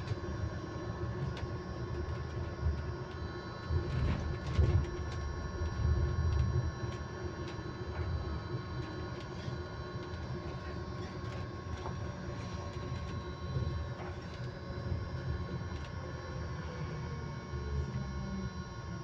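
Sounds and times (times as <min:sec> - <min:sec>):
electric bus motor whine: 0:00.0 - 0:19.0.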